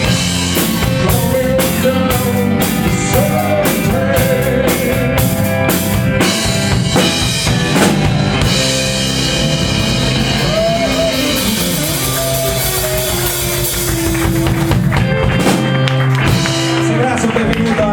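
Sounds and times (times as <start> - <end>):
rock music: 0.0 - 17.9.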